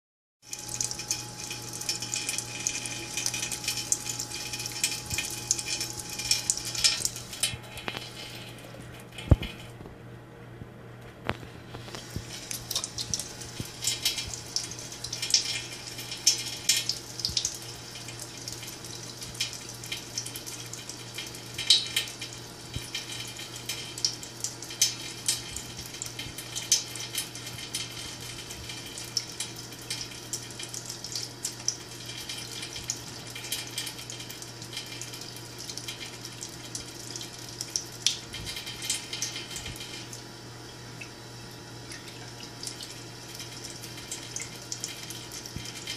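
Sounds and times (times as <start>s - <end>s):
faucet running thin stream: 0.4s - 9.3s, 11.9s - 40.3s, 41.0s - 45.9s.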